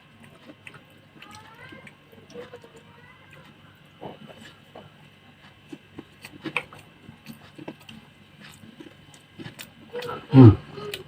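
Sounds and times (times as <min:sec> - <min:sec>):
wet chewing: 0:00.1 - 0:11.0.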